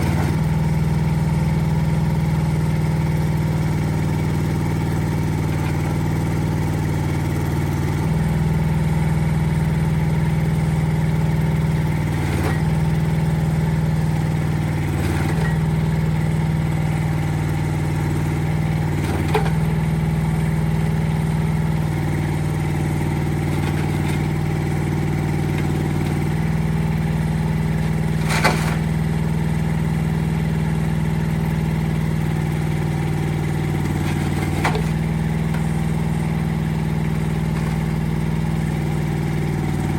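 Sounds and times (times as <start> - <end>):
mini excavator engine running: 0.0 - 39.9.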